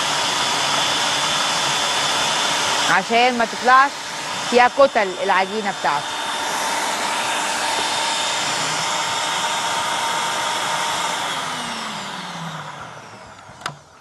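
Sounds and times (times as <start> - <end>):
food processor motor whine: 0.0 - 14.0.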